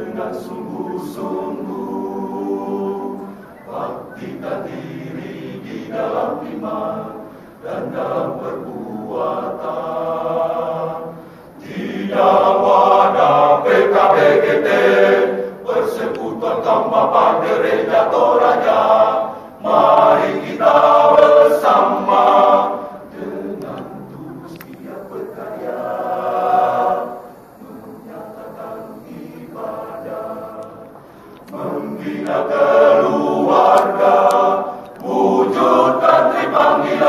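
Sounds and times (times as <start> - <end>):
choir singing long notes: 0.0 - 37.0.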